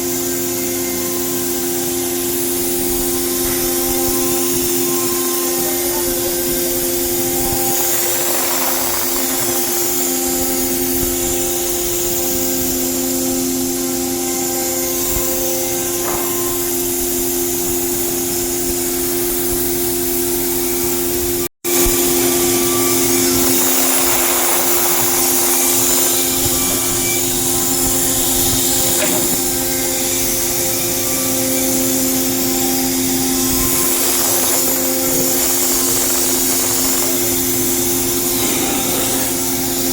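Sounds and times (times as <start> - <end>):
router spindle whine: 0.0 - 39.9
wood cutting hiss: 0.0 - 39.9.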